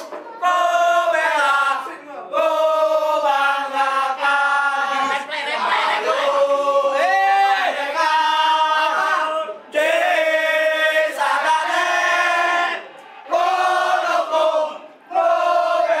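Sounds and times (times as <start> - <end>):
football supporters chanting: 0.0 - 16.0.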